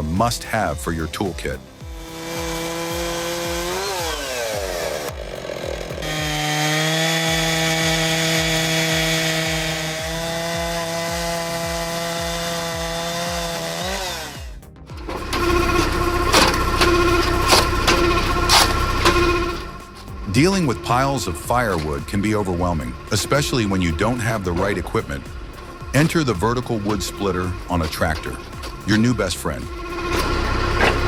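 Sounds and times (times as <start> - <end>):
chainsaw running at high speed: 0.0 - 31.0.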